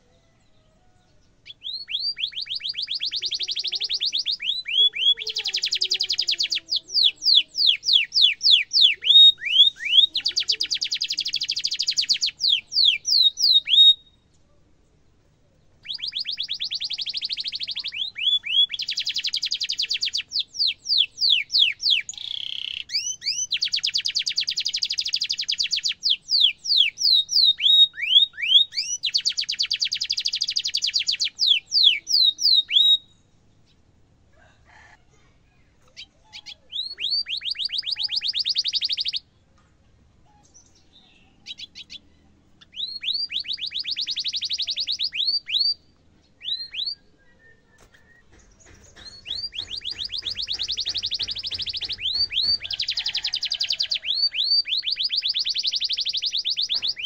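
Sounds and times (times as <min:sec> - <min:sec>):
canary singing: 0:00.0 - 0:14.4, 0:15.6 - 0:33.9, 0:35.8 - 0:39.3, 0:40.2 - 0:57.0.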